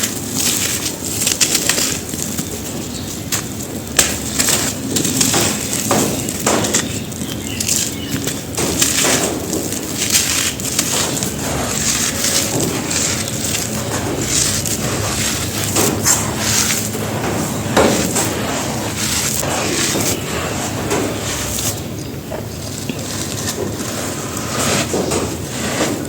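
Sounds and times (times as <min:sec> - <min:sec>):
dry dirt crumbling: 0:00.0 - 0:26.0.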